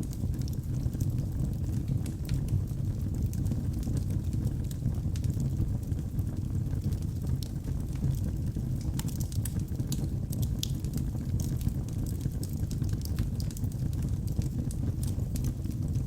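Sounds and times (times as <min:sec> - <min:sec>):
fire crackles and pops: 0:00.0 - 0:16.0
fire flames rumbling: 0:00.0 - 0:16.0.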